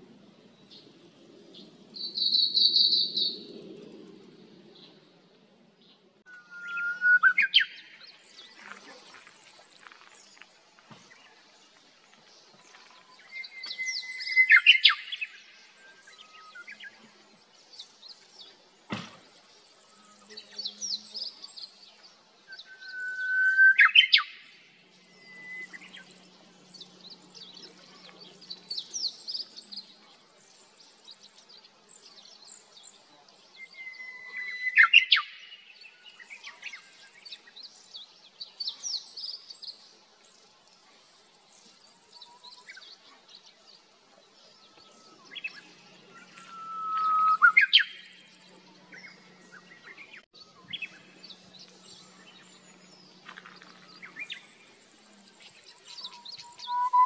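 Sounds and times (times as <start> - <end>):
bush warbler singing: 0.4 - 3.9, 6.4 - 57.0.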